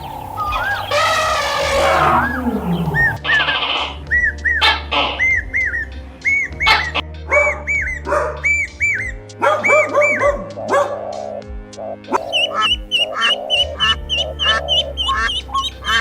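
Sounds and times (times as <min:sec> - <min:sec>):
high arching animal calls: 0:00.0 - 0:05.7, 0:06.4 - 0:16.0
background music: 0:00.0 - 0:16.0.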